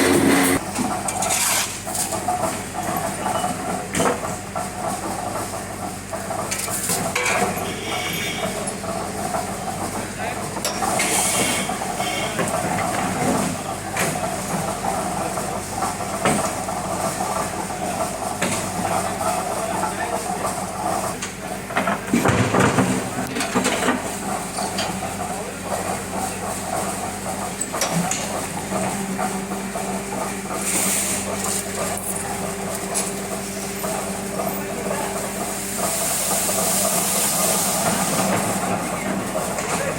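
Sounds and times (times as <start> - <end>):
block-making machinery running: 0.0 - 39.9
concrete mixer running: 0.0 - 39.9.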